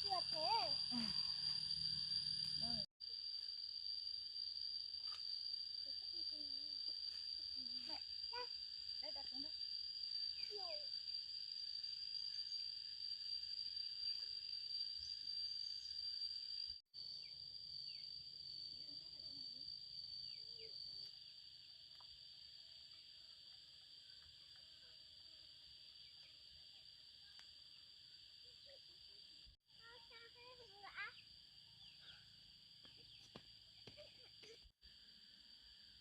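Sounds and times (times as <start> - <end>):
insect chorus: 0.0 - 36.0.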